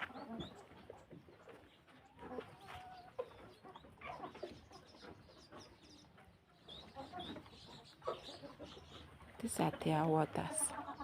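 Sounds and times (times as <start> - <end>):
chicken calls: 0.0 - 11.0
chickens clucking softly: 0.0 - 11.0.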